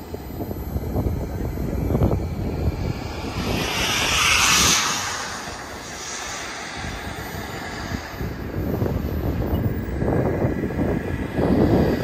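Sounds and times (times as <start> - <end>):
wind gusts on microphone: 0.0 - 12.0
jet flyby hiss: 0.8 - 12.0.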